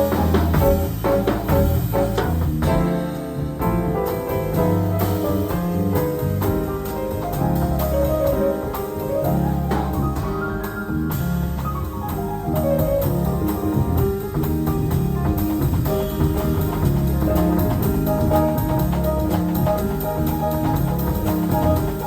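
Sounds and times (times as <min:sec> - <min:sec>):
drums: 0:00.0 - 0:22.0
piano melody and chords: 0:00.0 - 0:22.0
walking bass line: 0:00.0 - 0:22.0.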